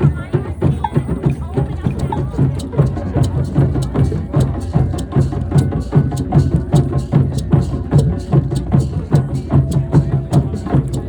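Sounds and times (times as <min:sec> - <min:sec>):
hand drums deep beats and slaps: 0:00.0 - 0:11.0.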